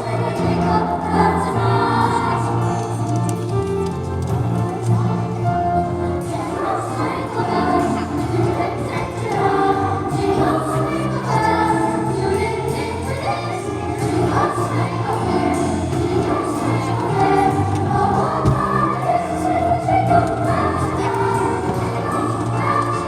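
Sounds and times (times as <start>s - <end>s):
choir singing in parts: 0.0s - 23.0s.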